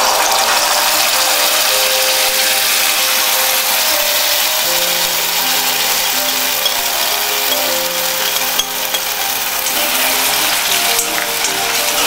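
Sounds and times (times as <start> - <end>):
spice paste sizzling in oil: 0.0 - 12.0.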